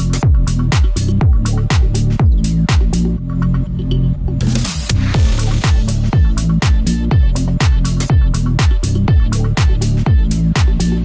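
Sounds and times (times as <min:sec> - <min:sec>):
kick drum: 0:00.0 - 0:03.1, 0:04.9 - 0:11.0
electronic dance music: 0:00.0 - 0:11.0.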